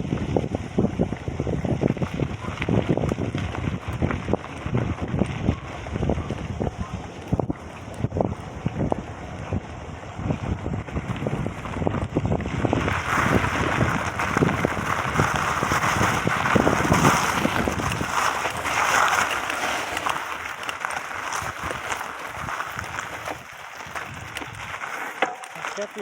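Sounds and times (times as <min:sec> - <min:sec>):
wind buffeting microphone: 0:00.0 - 0:25.1.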